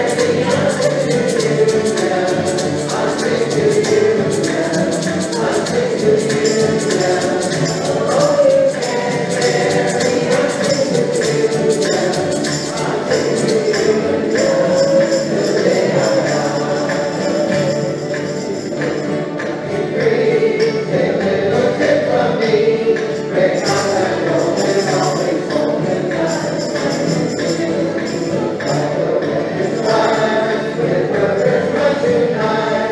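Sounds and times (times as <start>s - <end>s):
group singing in unison: 0.0s - 32.9s
strummed acoustic guitars: 0.0s - 32.9s.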